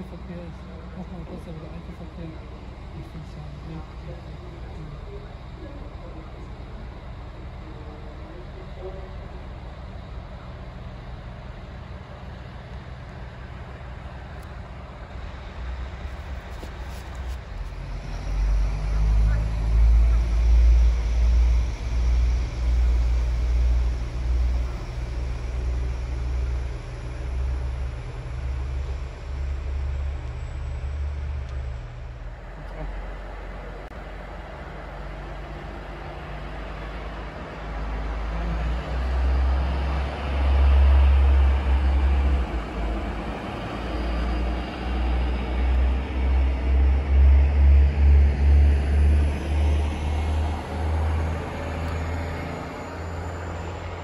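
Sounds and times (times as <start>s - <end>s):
train pulling away: 0.0s - 54.0s.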